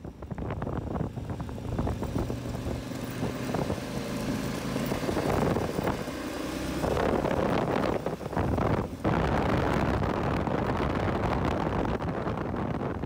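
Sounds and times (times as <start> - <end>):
motorcycle engine running: 0.0 - 12.8
wind noise on microphone: 0.0 - 13.0.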